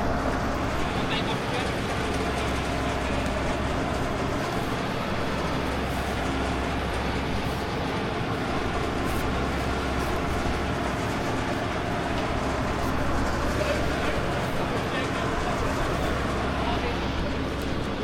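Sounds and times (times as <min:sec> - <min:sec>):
heavy engine running steadily: 0:00.0 - 0:18.0.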